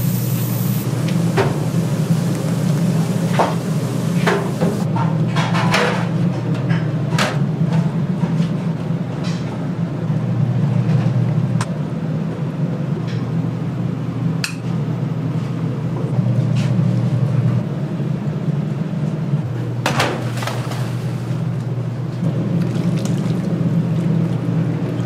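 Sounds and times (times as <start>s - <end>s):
low machine hum: 0.0s - 5.0s, 7.5s - 25.0s.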